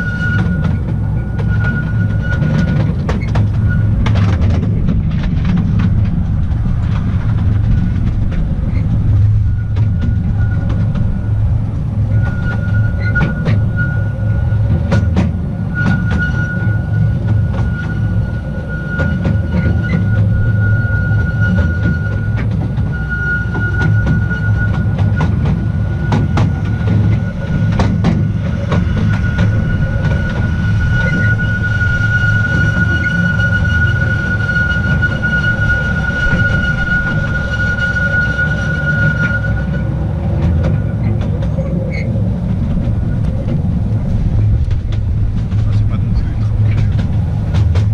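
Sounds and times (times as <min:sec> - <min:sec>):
high-pitched wheel squeal: 0:00.0 - 0:47.9
train rumbling on track: 0:00.0 - 0:47.9
wheels clicking on rail joints: 0:00.0 - 0:47.9.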